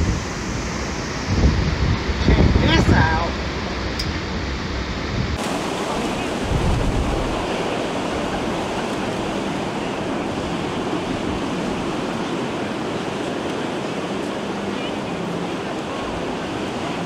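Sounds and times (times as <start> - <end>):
rough surf breaking: 0.0 - 17.0
wind buffeting microphone: 0.0 - 17.0.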